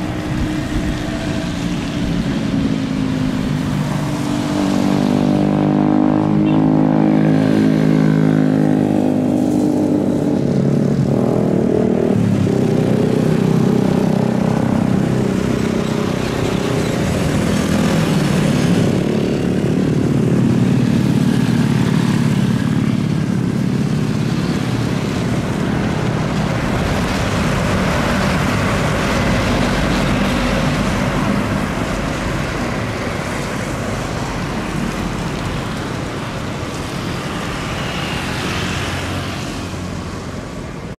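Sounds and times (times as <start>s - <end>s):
jet engines humming: 0.0s - 6.6s, 9.5s - 41.0s.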